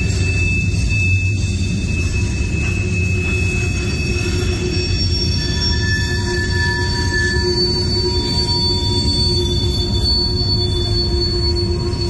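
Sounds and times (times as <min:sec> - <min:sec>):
high wheel squeals: 0:00.0 - 0:12.0
train wheels rumbling on rail: 0:00.0 - 0:12.0.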